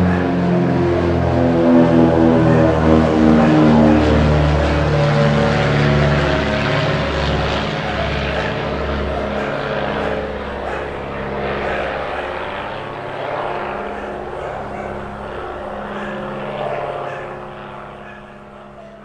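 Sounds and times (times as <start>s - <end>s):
propeller aircraft engine drone: 0.0s - 19.0s.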